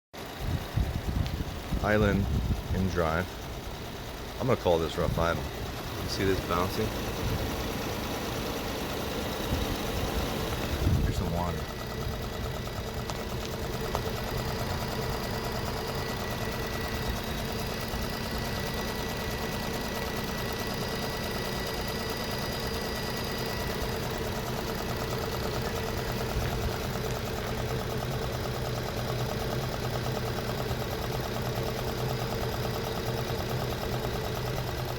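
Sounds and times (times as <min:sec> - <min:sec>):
car engine rough idle: 0:00.2 - 0:34.9.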